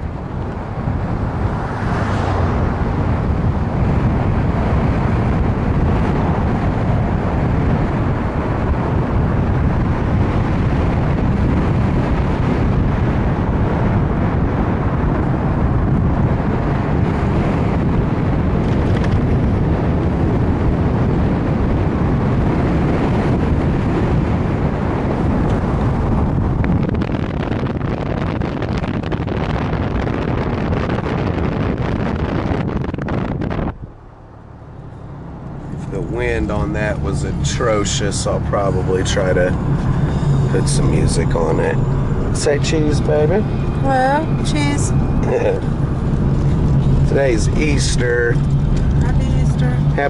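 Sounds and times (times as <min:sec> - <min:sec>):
road noise: 0:00.0 - 0:50.0
wind buffeting microphone: 0:00.0 - 0:50.0.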